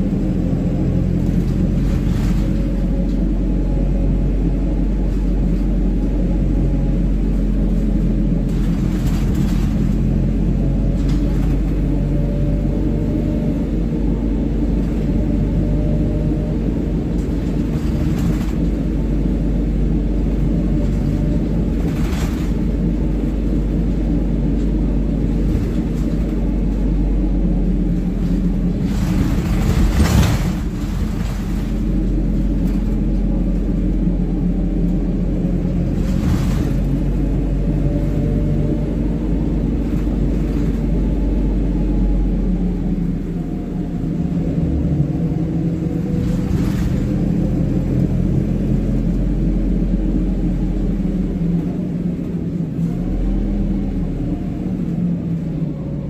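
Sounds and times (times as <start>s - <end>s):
bus engine drone: 0.0s - 56.0s
road rumble: 0.0s - 56.0s.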